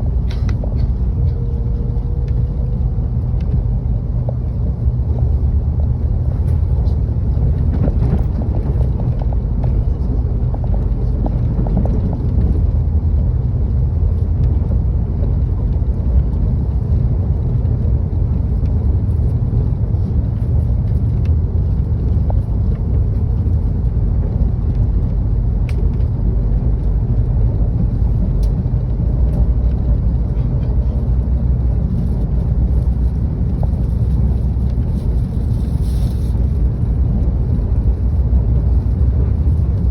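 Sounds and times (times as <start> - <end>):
metro train rumbling: 0.0 - 39.9.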